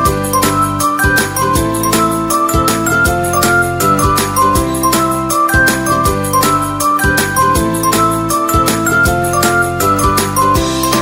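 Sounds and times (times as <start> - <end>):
upbeat music with bell-like notes: 0.0 - 11.0.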